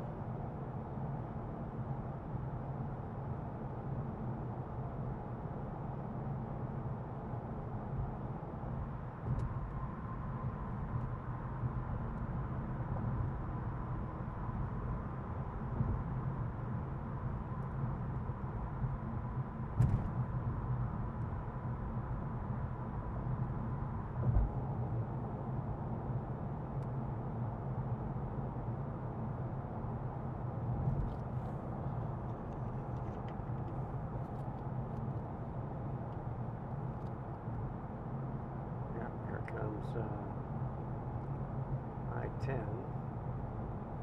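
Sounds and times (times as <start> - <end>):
car road and engine rumble: 0.0 - 44.0.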